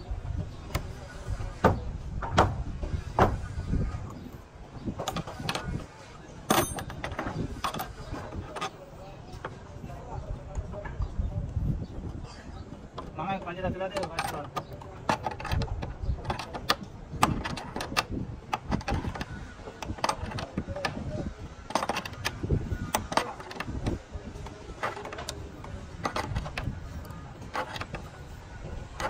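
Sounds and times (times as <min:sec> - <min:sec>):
voices murmuring: 0:00.0 - 0:29.0.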